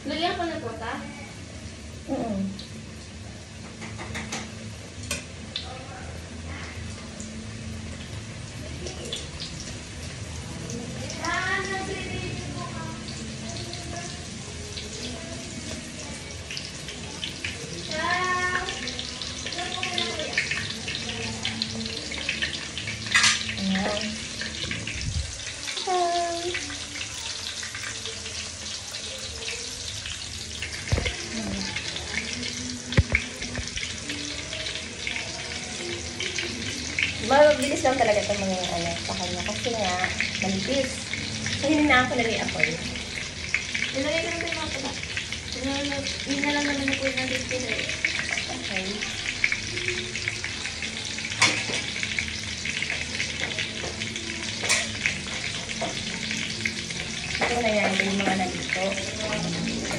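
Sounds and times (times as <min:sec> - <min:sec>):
cutlets deep-frying in oil: 0:00.0 - 0:59.9.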